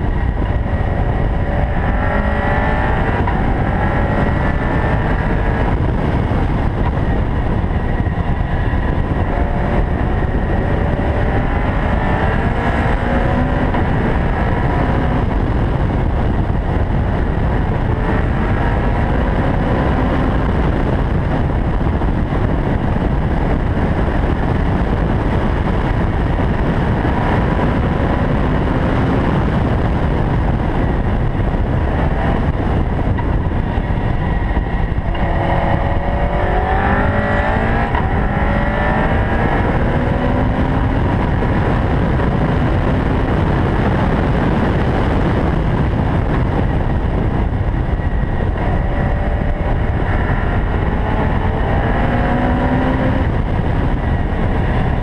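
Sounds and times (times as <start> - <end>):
car engine revving through gears: 0.0 - 55.0
wind and road noise: 0.0 - 55.0.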